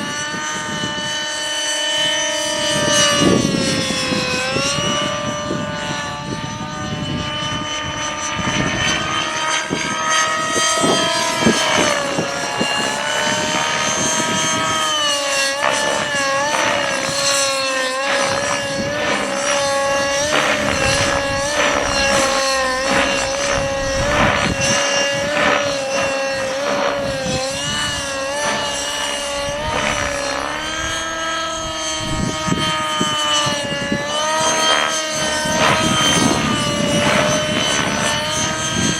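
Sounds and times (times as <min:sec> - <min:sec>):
rc helicopter engine and rotors: 0:00.0 - 0:38.9
wind buffeting microphone: 0:00.0 - 0:38.9.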